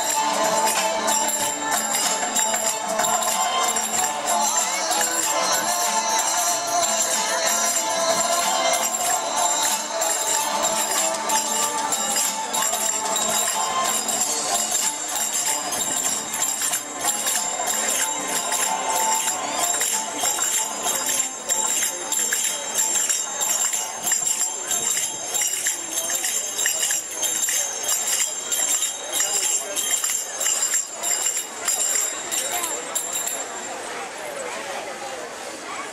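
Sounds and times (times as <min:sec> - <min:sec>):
belly dance music: 0:00.0 - 0:33.0.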